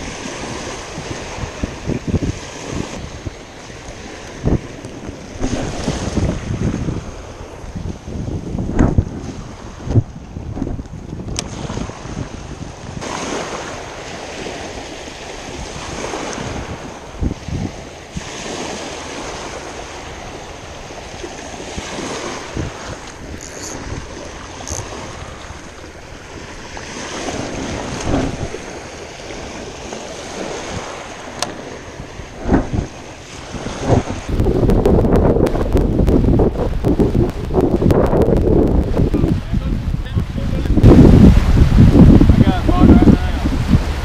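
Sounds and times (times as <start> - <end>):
small waves washing ashore: 0.0 - 44.0
wind buffeting microphone: 0.0 - 44.0.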